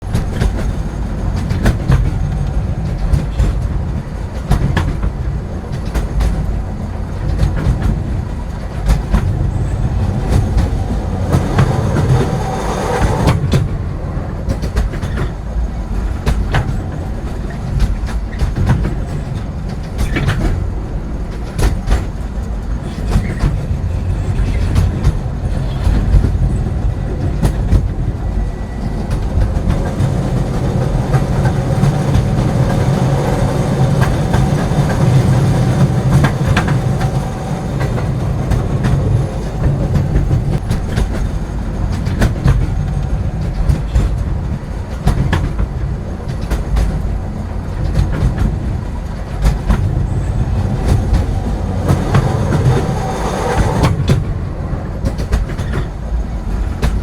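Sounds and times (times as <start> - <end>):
train rumbling on rails: 0.0 - 57.0
wheels clacking over track joints: 0.0 - 57.0
train wheel squeal: 0.1 - 57.0.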